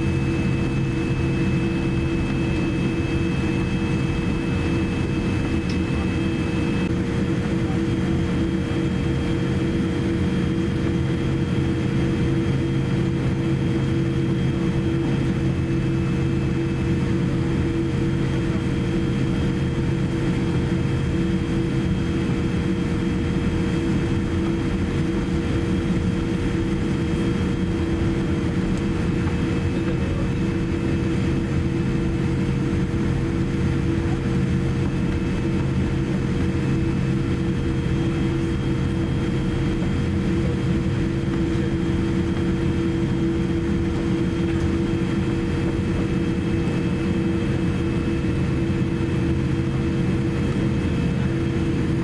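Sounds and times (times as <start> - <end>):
jet engines idling rumble: 0.0 - 52.0.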